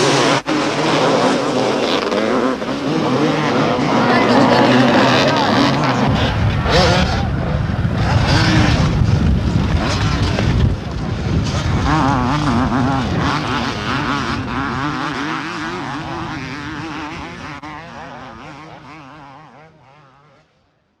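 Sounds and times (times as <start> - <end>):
motocross motorcycle engines revving: 0.0 - 20.6.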